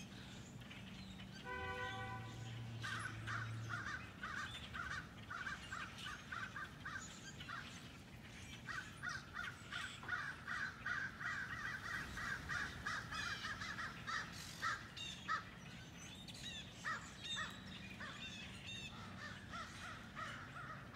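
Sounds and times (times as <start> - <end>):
flock of blackbirds calling: 0.0 - 20.9.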